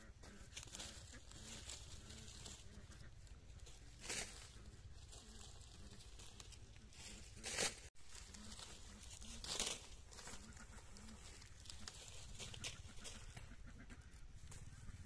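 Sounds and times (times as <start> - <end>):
dry stalks rustling and crackling: 0.0 - 15.0
low rural background: 0.0 - 15.0.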